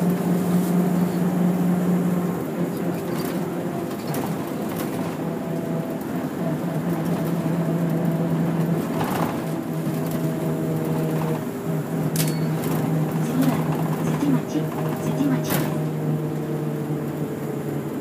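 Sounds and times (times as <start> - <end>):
bus engine hum: 0.0 - 18.0.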